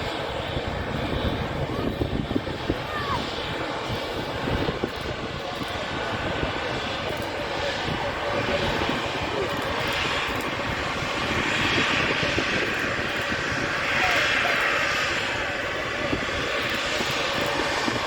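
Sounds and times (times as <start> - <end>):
airliner engines rushing: 0.0 - 18.0.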